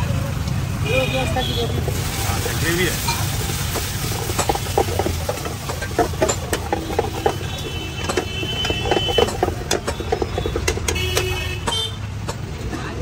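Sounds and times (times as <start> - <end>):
ladle scraping a wok: 1.3 - 11.9.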